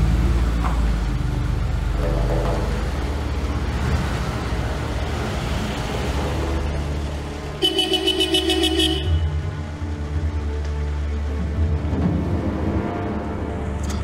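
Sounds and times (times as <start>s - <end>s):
car engine rumbling on cobblestones: 0.0s - 14.0s.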